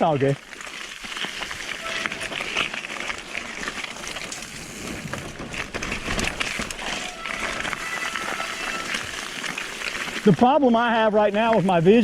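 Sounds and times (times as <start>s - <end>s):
bike rattling: 0.0s - 12.0s
bike tyres on rocky trail: 0.0s - 12.0s.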